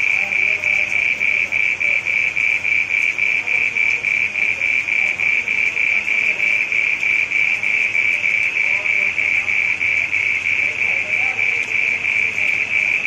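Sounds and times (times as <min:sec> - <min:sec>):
frog calling in rapid pulses: 0:00.0 - 0:13.0.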